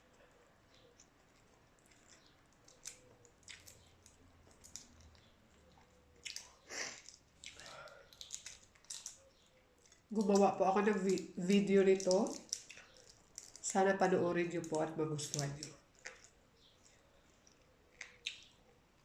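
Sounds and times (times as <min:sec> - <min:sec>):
wet chewing and mouth smacks: 0:00.7 - 0:13.7, 0:15.2 - 0:19.0.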